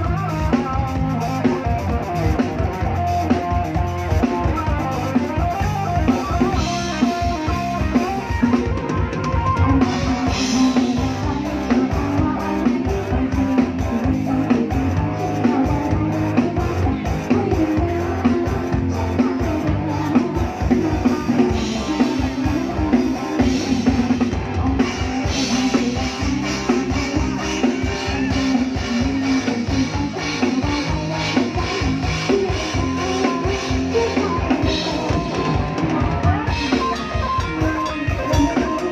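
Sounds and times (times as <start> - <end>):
drum kit beat: 0.0 - 38.9
guitar: 0.0 - 38.9
live band music: 0.0 - 38.9.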